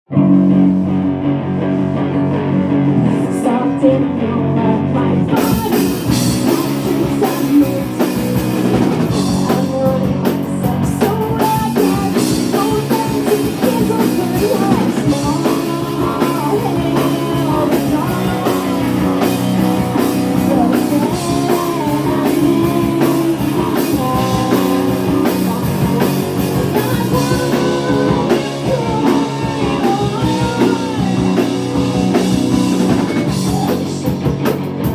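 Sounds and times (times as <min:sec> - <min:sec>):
guitars and bass: 0:00.1 - 0:34.9
person singing: 0:01.7 - 0:34.3
drum kit and cymbals: 0:05.4 - 0:34.9.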